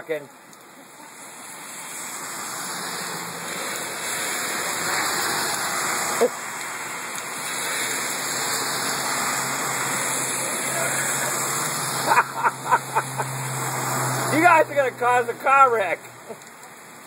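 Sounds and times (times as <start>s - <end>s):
heavy rain on road: 0.0s - 17.0s.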